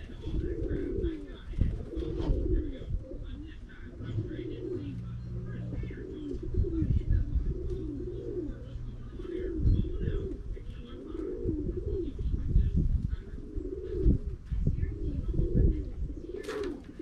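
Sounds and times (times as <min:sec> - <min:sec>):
low steady hum: 0:00.0 - 0:17.0
pigeons cooing: 0:00.0 - 0:17.0.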